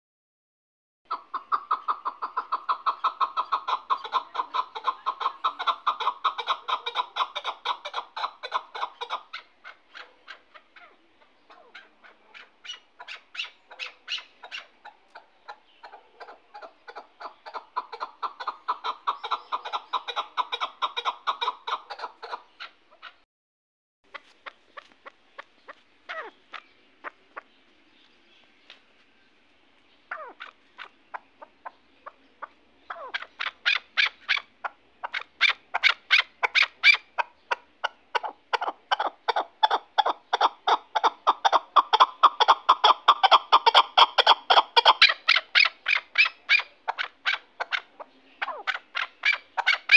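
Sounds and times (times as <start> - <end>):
partridge clucking calls: 1.1 - 23.2, 24.1 - 29.0, 29.8 - 49.9.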